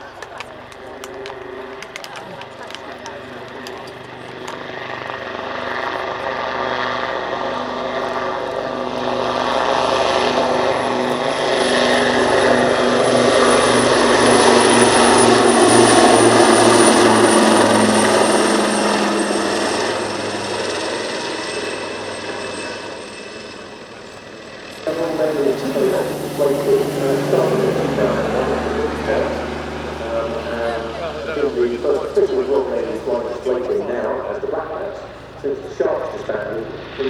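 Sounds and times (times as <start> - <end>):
helicopter flying past: 0.0 - 37.0.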